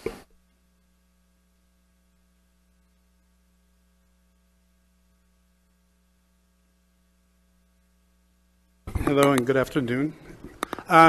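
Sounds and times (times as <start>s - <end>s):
faint mains hum: 0.0s - 11.0s.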